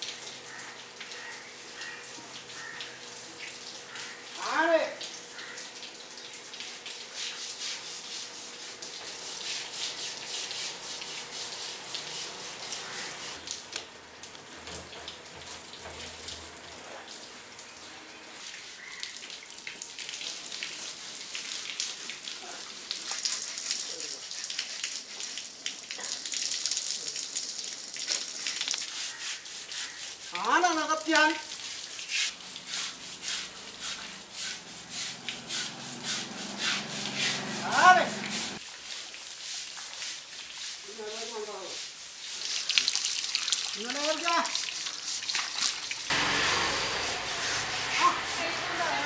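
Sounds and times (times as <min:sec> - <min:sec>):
hose water spraying and splashing: 0:00.0 - 0:49.0.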